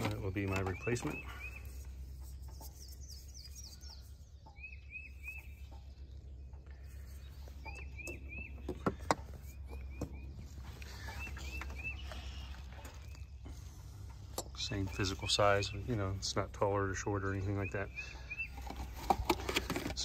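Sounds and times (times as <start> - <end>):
small bird chirping: 0.2 - 16.2.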